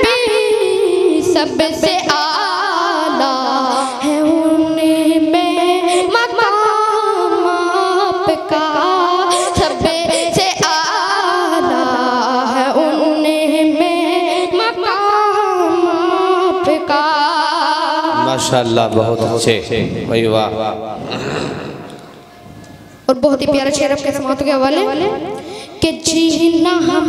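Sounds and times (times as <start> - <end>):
boy singing unaccompanied: 0.0 - 18.5, 23.1 - 27.0.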